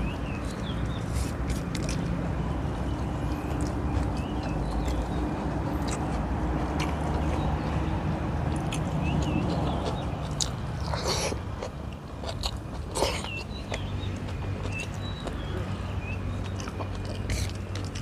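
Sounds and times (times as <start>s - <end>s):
chewing with wet mouth clicks: 0.0s - 18.0s.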